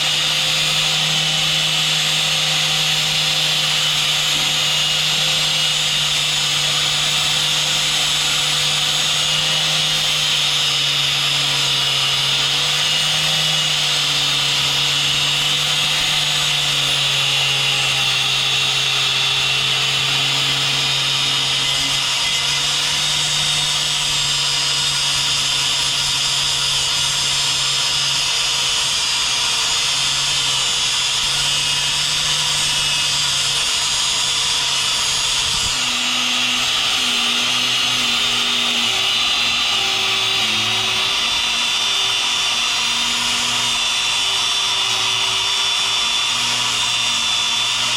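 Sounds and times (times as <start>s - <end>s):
grinder cutting steel: 0.0s - 47.9s.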